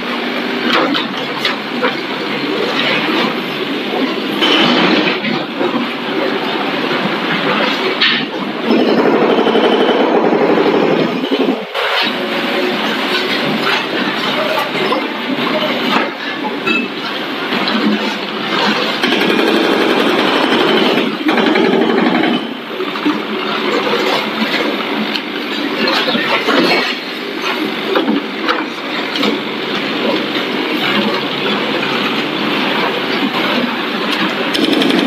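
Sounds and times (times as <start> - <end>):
tracks and bucket clanking: 0.0 - 35.0.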